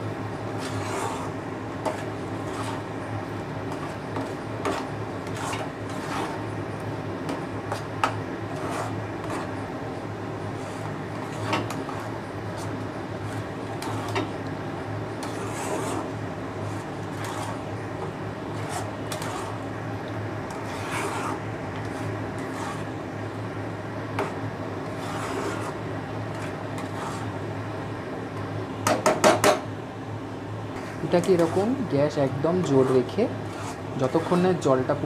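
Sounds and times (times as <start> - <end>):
steady low hum: 0.0 - 35.0
spatula scraping a pan: 0.4 - 6.6, 7.2 - 14.4, 15.1 - 19.8, 20.5 - 23.2, 24.1 - 27.5, 30.7 - 34.7.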